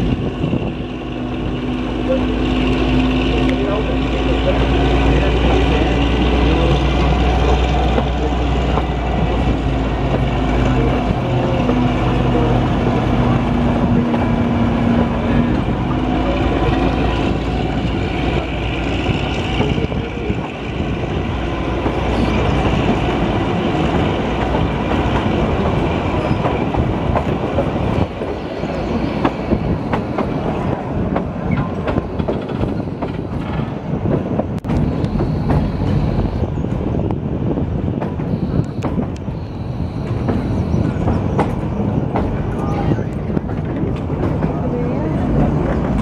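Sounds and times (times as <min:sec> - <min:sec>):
train coaches rumbling: 0:00.0 - 0:46.0.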